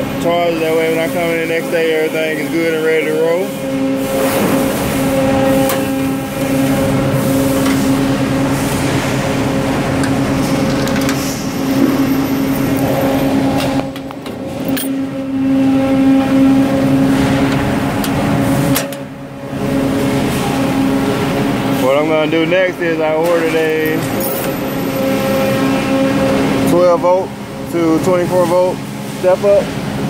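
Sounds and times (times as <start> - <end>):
loud machine hum: 0.0 - 30.0.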